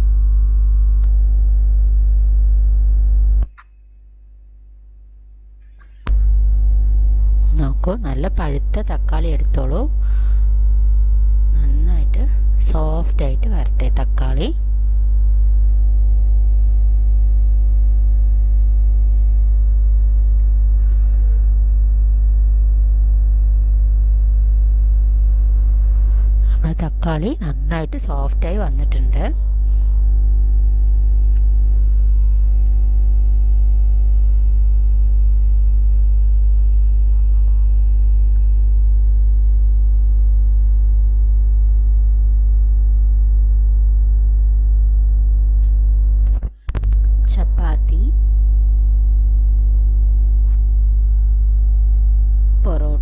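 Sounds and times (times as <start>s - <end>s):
loud electrical hum: 0.0s - 53.0s.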